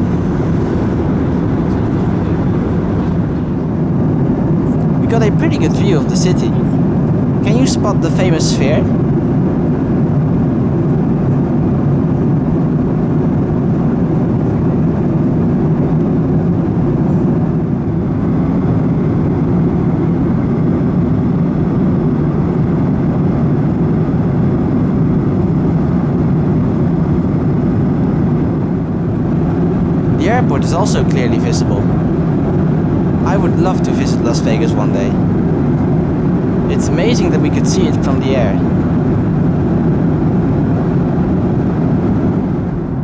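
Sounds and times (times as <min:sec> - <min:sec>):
airliner cabin rumble: 0:00.0 - 0:23.5, 0:24.4 - 0:43.0.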